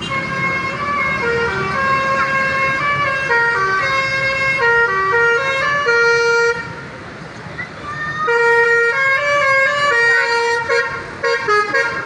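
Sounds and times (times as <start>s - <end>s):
truck air horn playing a tune: 0.0s - 6.8s, 8.3s - 12.0s.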